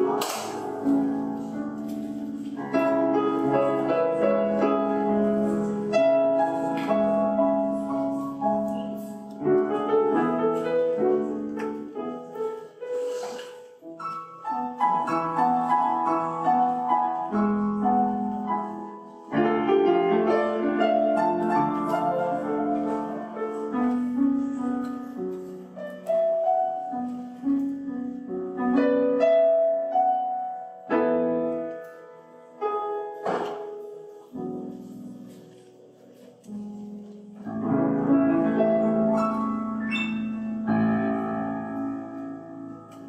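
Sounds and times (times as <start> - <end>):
slow piano chords: 0.0 - 43.0.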